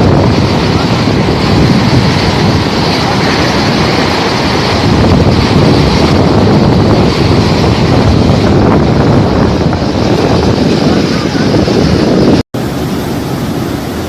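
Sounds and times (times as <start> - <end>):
floodwater rushing: 0.0 - 14.0
wind noise on microphone: 0.0 - 14.0.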